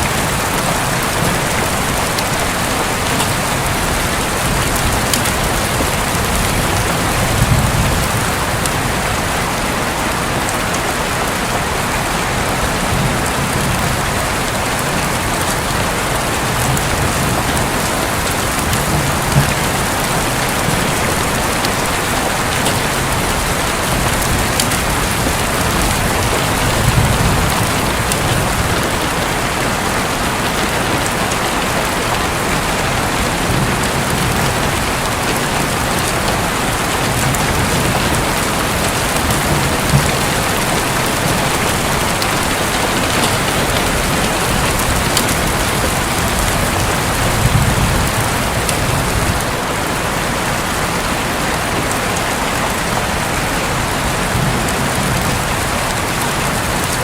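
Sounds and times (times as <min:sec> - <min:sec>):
thunder rumbling: 0:00.0 - 0:10.6, 0:11.7 - 0:49.6
heavy rain drumming on a roof: 0:00.0 - 0:57.0.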